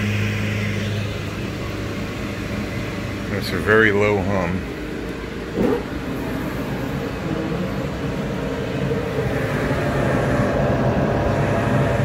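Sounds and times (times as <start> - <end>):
exhaust fan humming: 0.0 - 12.0.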